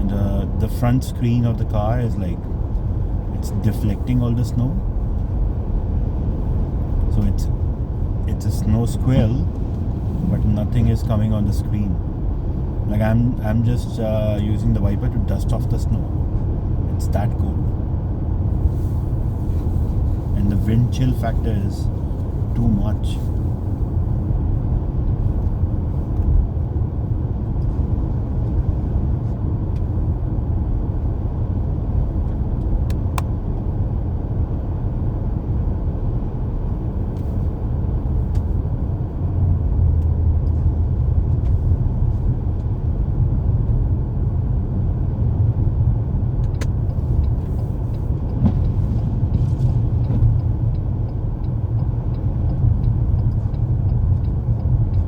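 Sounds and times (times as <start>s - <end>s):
car driving on snowy road: 0.0s - 55.0s.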